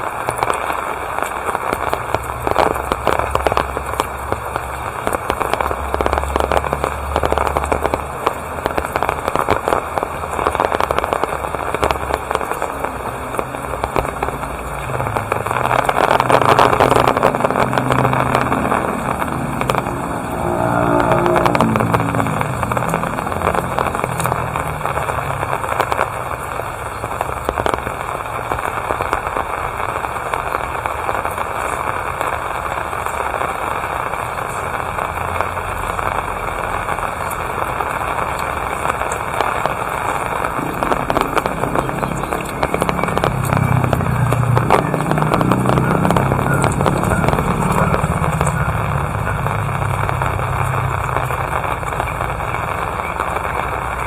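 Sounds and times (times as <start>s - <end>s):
rain falling: 0.0s - 54.0s
raindrops crackling on surfaces: 0.0s - 54.0s
vehicle engine humming: 0.4s - 28.8s, 32.7s - 54.0s.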